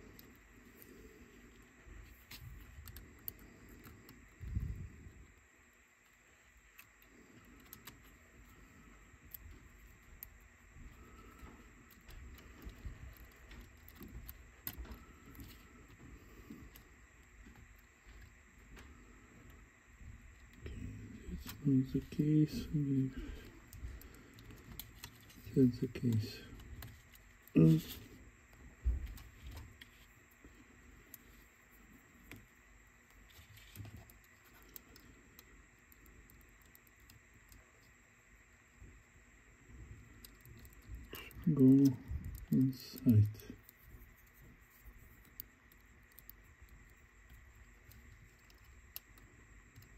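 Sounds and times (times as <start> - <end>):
small plastic parts clicking: 0.0 - 5.4, 6.0 - 19.7, 21.4 - 38.0, 40.1 - 49.9.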